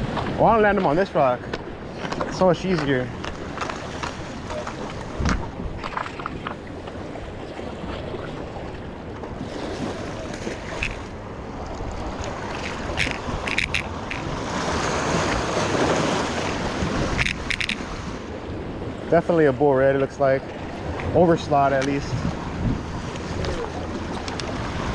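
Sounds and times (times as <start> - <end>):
wind buffeting microphone: 0.0 - 19.1, 20.5 - 24.9
surf washing against rocks: 0.0 - 24.9.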